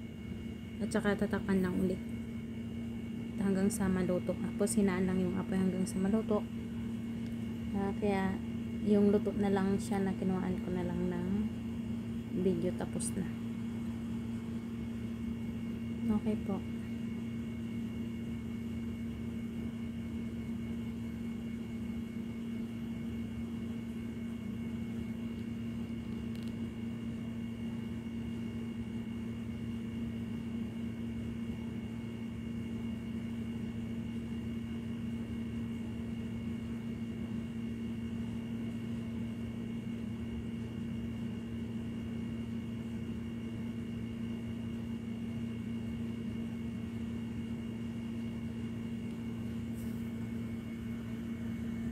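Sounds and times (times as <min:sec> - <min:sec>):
machine hum with low rumble: 0:00.0 - 0:51.9.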